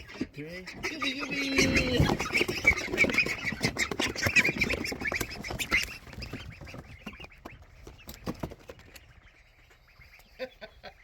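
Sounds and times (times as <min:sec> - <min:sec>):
young poultry calling: 0:00.0 - 0:11.0.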